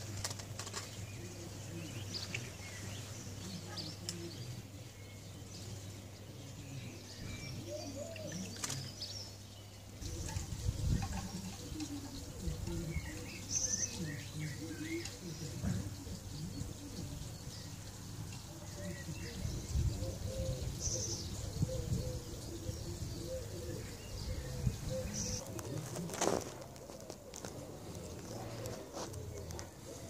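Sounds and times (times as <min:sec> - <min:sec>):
soft low murmuring bird calls: 0:00.0 - 0:30.0.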